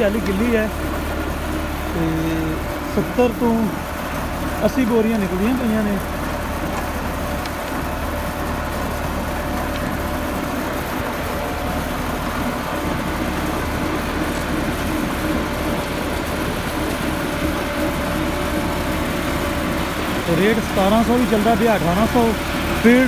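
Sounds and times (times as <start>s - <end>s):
chain elevator lifting soil: 0.0s - 23.0s
tractor diesel engine running: 0.0s - 23.0s.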